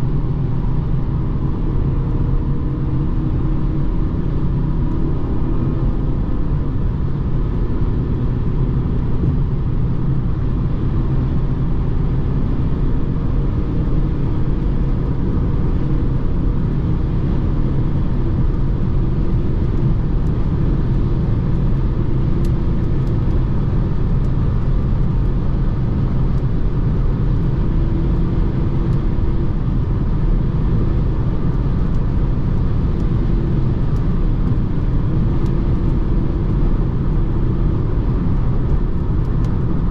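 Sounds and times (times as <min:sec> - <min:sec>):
diesel car engine cruising: 0:00.0 - 0:39.9
low road rumble: 0:00.0 - 0:39.9.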